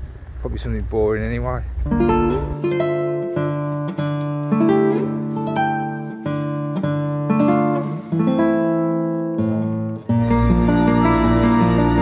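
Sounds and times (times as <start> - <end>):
acoustic guitar picking: 1.7 - 12.0.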